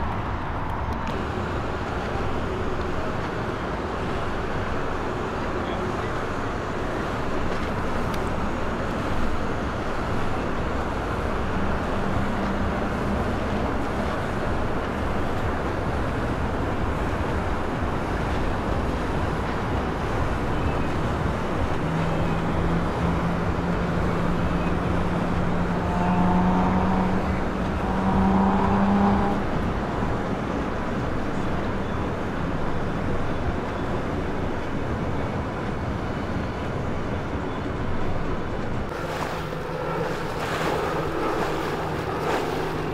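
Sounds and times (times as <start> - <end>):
boat engines rumbling: 0.0 - 42.9
churning water: 0.0 - 42.9
low engine hum: 0.0 - 42.9.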